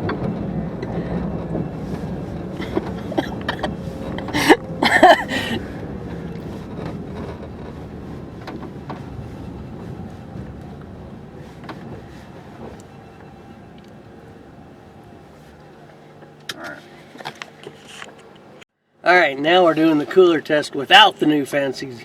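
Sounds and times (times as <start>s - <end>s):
road and tyre noise: 0.0s - 22.0s.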